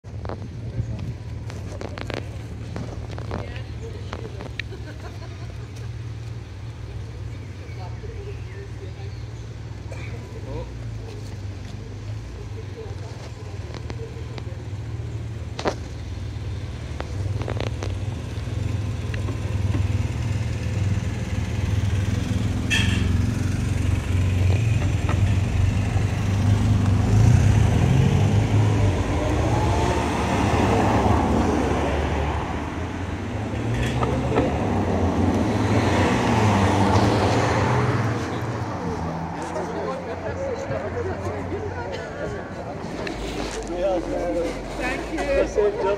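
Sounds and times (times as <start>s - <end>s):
motorcycle and car engines: 0.0s - 45.9s.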